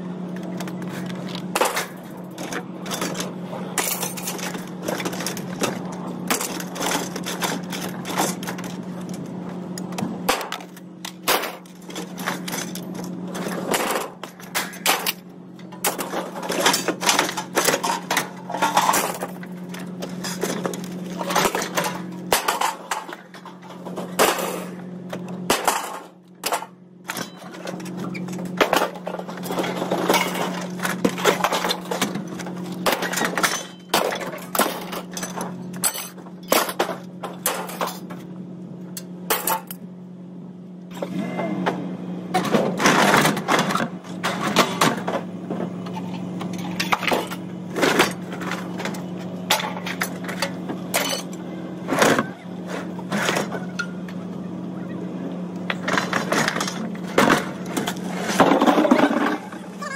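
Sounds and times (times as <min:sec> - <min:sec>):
scrap metal clanking and crashing: 0:00.4 - 0:38.3, 0:39.0 - 0:39.8, 0:40.9 - 0:54.2, 0:55.6 - 0:59.9.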